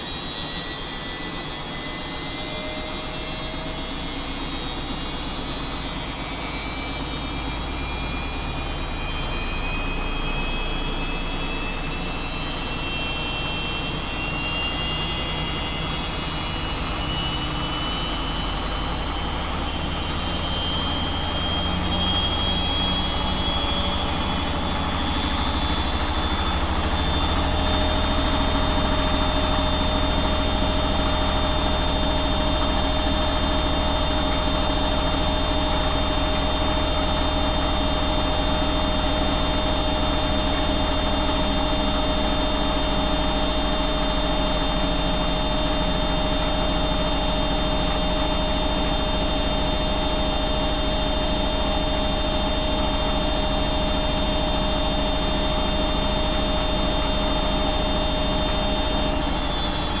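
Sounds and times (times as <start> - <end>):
washing machine spinning: 0.0 - 60.0.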